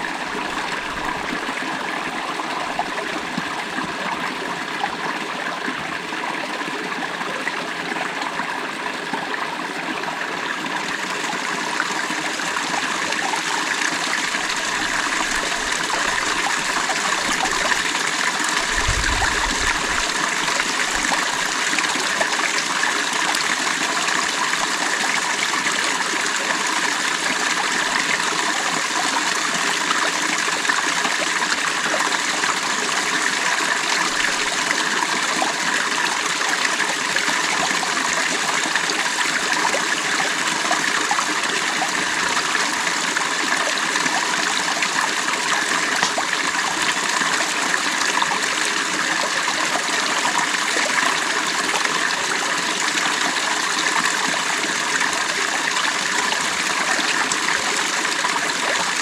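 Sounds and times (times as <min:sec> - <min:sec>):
stream water flowing over stones: 0:00.0 - 0:59.0.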